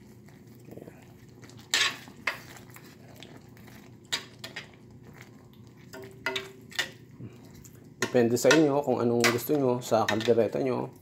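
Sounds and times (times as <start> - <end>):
metal spoon stirring thick sauce: 1.0 - 10.7.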